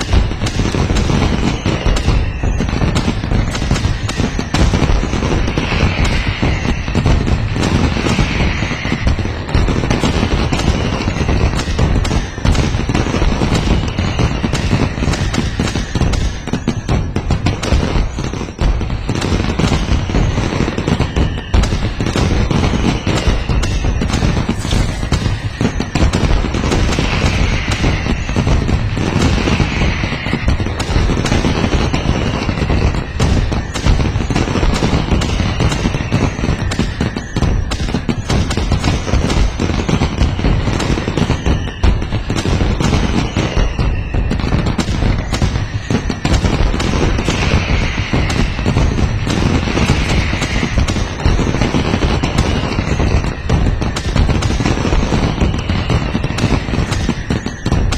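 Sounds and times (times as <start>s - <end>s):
firework whistle: 0.0s - 57.9s
fireworks bangs and crackling: 0.0s - 57.9s.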